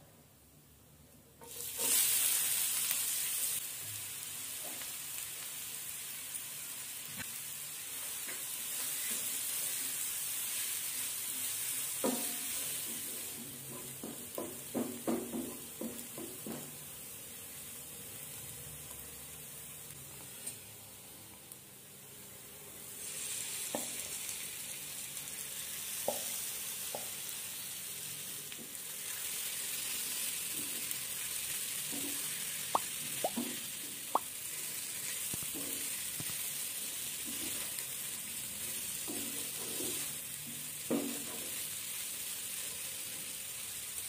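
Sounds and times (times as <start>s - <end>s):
onions sizzling in hot oil: 1.4s - 44.0s.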